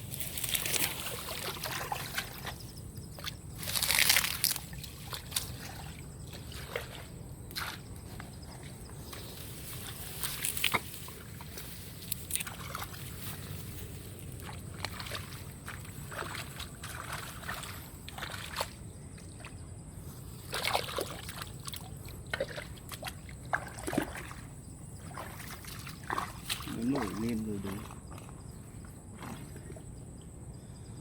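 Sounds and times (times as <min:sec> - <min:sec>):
water sloshing and splashing: 0:00.0 - 0:19.6, 0:20.3 - 0:30.2.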